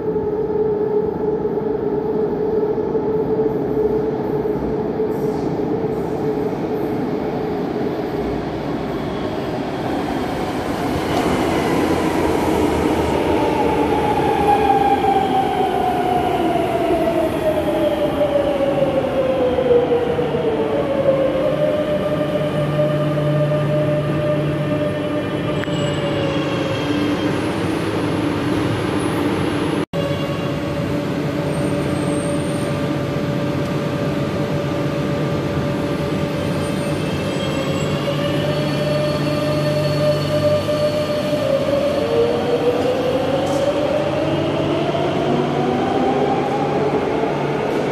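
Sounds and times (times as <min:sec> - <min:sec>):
metro train braking: 0:00.0 - 0:47.9
train hum: 0:00.0 - 0:47.9.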